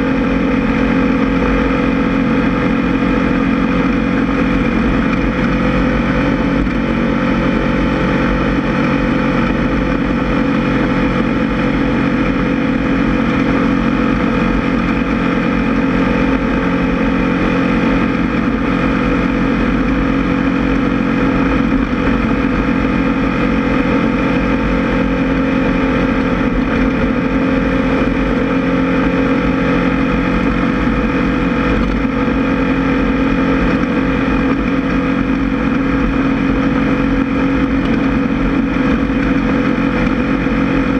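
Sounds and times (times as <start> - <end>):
buggy engine droning: 0.0 - 40.9.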